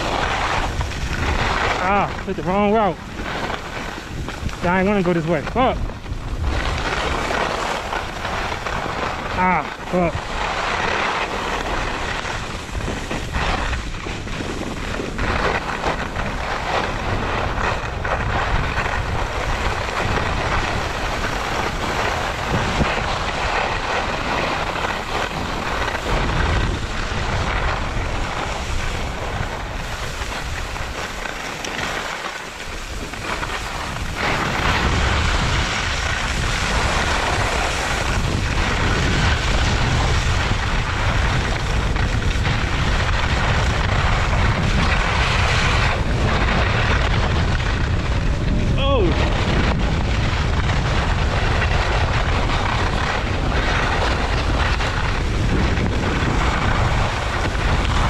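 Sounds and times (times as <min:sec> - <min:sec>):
skis scraping over snow: 0:00.0 - 0:58.0
wind on microphone: 0:00.0 - 0:58.0.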